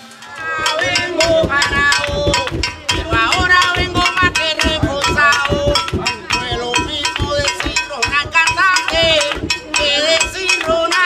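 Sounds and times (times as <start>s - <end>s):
conga drums playing fast rhythm: 0.0s - 11.0s
person singing: 0.2s - 11.0s.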